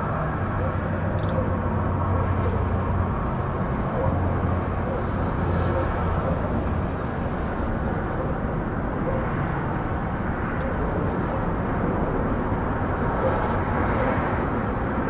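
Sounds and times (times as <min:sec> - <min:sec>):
steady background rumble: 0:00.0 - 0:15.0.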